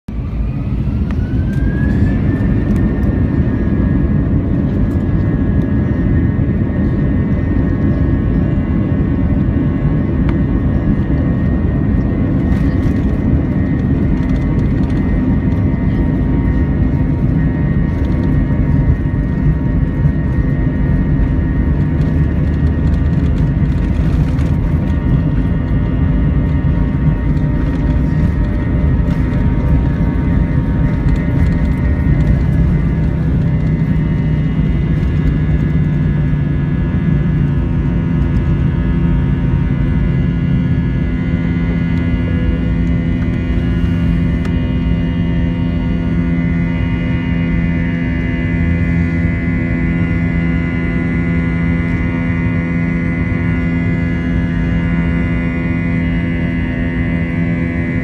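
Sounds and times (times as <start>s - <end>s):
engine roar with high whine: 0.0s - 58.0s.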